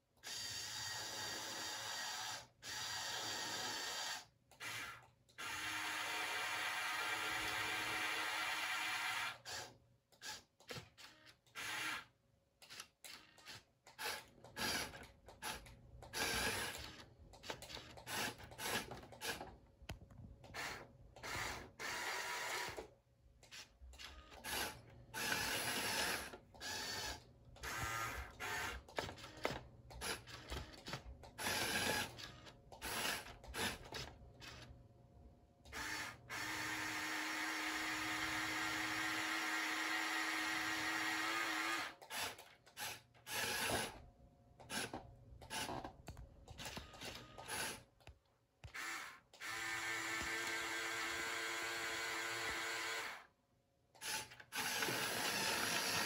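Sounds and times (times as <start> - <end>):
toy electric motors whirring: 0.2 - 19.5, 20.4 - 34.7, 35.7 - 44.0, 44.6 - 45.9, 46.5 - 53.3, 54.0 - 56.0.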